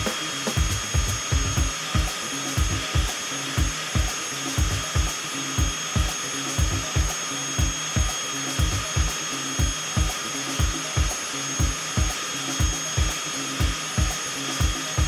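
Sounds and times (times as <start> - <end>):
high turbine whine: 0.0 - 15.0.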